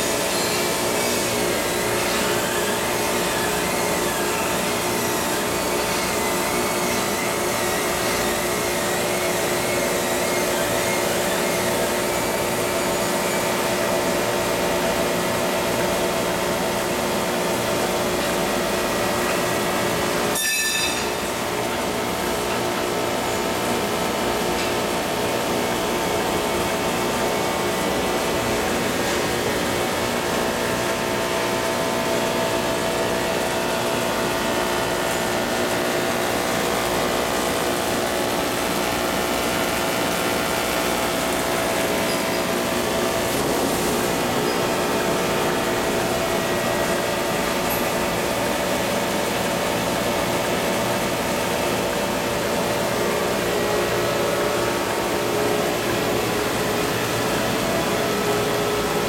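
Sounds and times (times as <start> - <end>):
machine motors whining and humming: 0.0 - 59.0.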